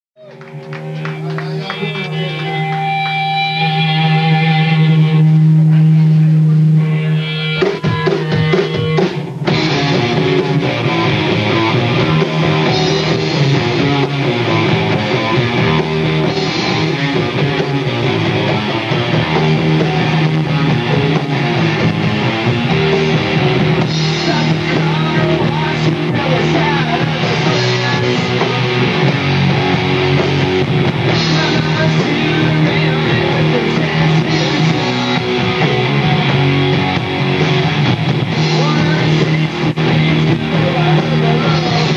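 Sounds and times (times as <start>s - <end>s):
drum kit: 0.2s - 41.9s
electric bass: 0.2s - 41.9s
electric guitars: 0.2s - 41.9s.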